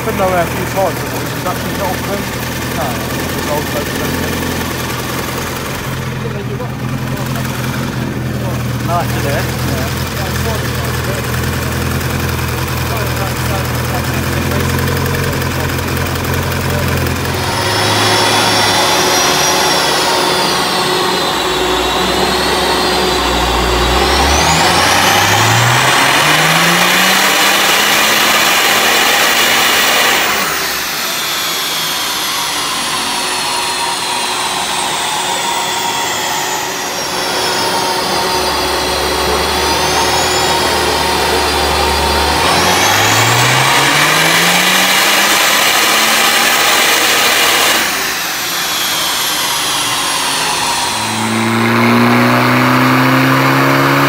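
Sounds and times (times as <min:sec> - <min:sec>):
car engine revving on dyno: 0:00.0 - 0:54.0.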